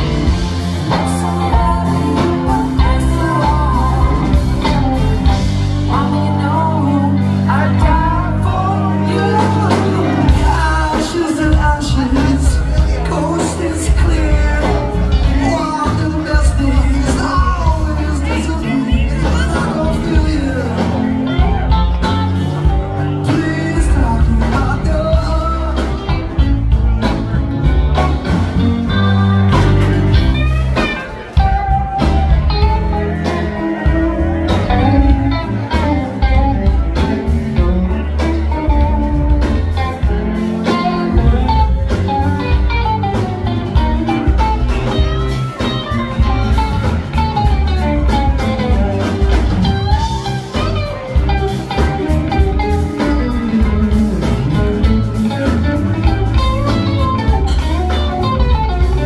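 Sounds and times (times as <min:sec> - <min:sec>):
electric guitar melody: 0:00.0 - 0:59.0
live rock band playing: 0:00.0 - 0:59.0.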